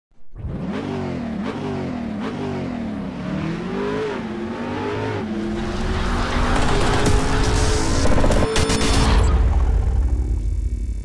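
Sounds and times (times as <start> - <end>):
car engine revving: 0.3 - 10.1.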